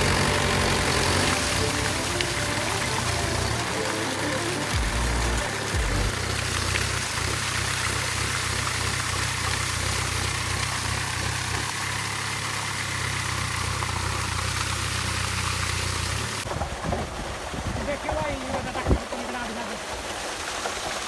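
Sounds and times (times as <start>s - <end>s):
engine idling: 0.0s - 20.7s
water gushing and splashing: 0.0s - 21.0s.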